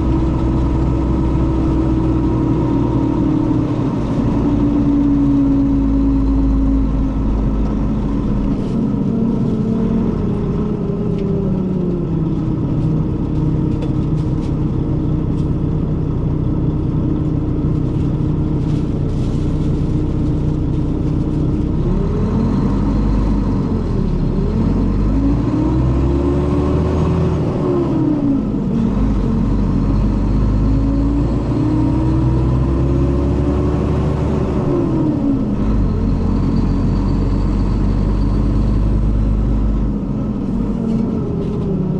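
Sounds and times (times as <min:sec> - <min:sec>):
bus engine shifting gears: 0:00.0 - 0:41.9.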